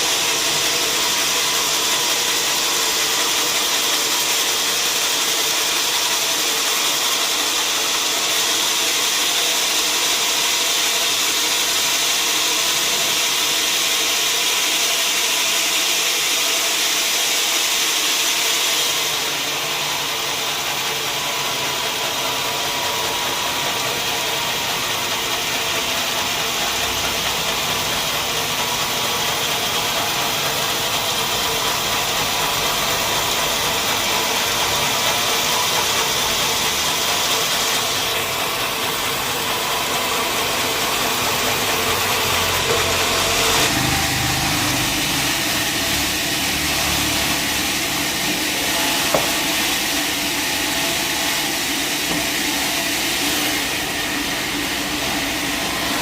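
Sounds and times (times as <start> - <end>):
sawmill machinery sawing: 0.0 - 56.0.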